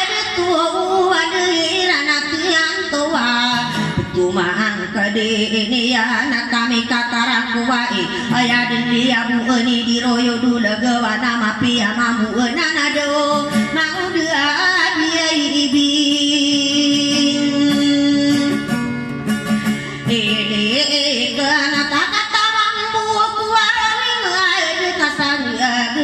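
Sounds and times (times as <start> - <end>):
woman singing: 0.0 - 18.9, 19.6 - 26.0
strummed acoustic guitar: 0.0 - 26.0.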